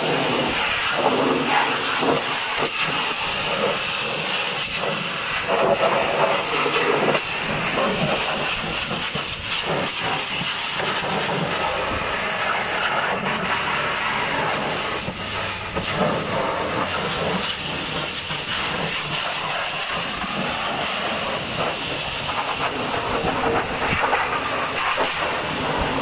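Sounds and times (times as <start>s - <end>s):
pressure washer spraying water: 0.0s - 26.0s.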